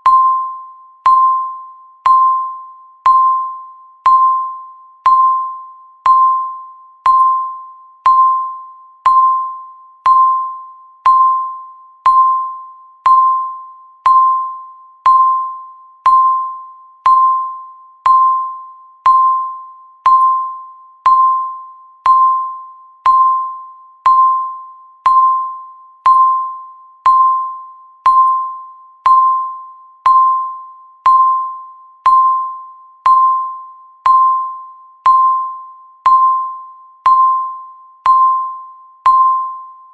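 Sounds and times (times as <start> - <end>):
timer pinging tone: 0.0 - 39.9.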